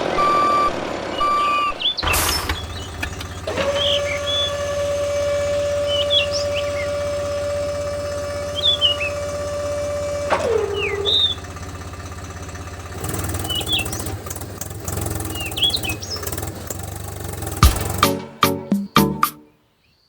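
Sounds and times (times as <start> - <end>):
birds chirping: 0.0 - 18.0
low fast-pulsing motor: 0.0 - 18.0
small motor whining: 0.0 - 18.0.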